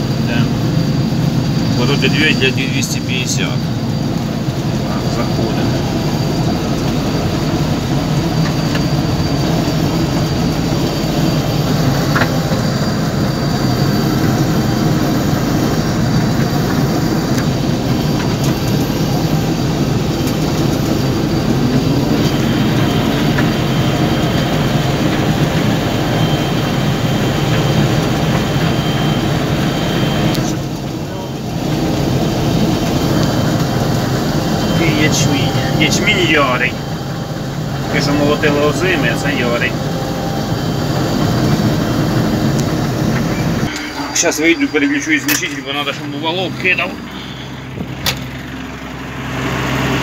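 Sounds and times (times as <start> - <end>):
faint high whine: 0.0 - 49.0
combine harvester engine drone: 0.0 - 50.0.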